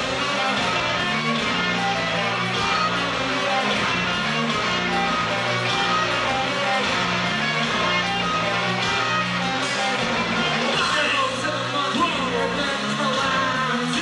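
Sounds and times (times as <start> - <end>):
bass line: 0.0 - 14.0
distorted electric guitars: 0.0 - 14.0.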